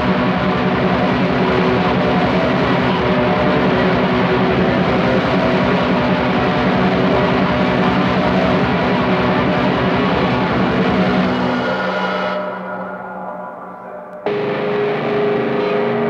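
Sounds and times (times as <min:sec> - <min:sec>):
heavily distorted guitars: 0:00.0 - 0:16.0.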